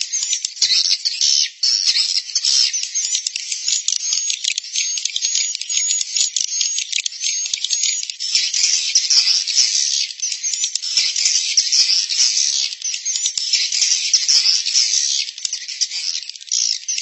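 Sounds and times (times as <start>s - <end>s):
swiftlets chattering and twittering: 2.4s - 17.0s.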